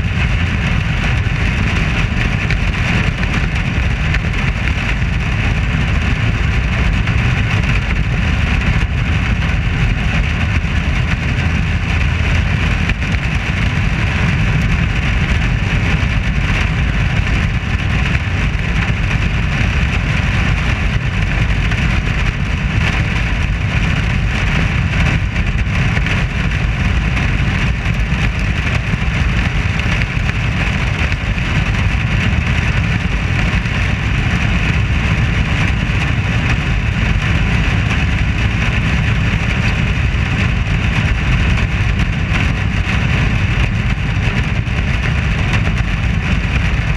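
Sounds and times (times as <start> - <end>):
race car engine running: 0.0 - 46.9
wind rushing over microphone: 0.0 - 46.9.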